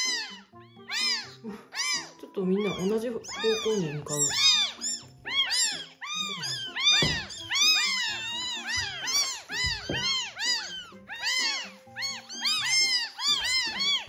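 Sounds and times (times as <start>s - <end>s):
kittens crying: 0.0s - 14.0s.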